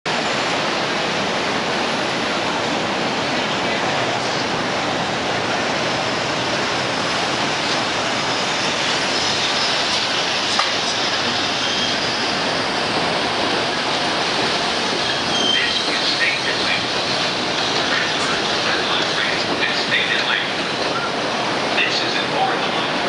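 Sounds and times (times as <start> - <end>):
train wheels rumbling on rails: 0.1 - 23.0.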